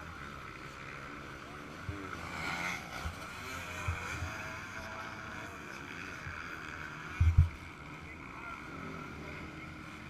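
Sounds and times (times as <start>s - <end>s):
motocross engine high revs: 0.0s - 10.0s.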